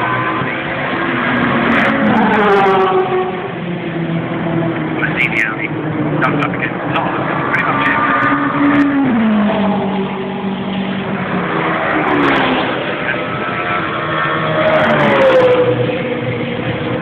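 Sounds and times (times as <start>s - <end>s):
race cars passing at speed: 0.0s - 17.0s.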